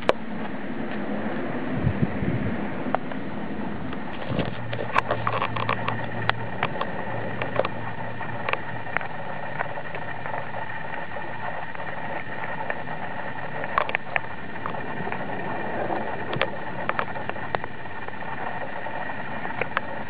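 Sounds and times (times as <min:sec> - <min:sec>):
outdoor rushing noise: 0:00.0 - 0:20.0.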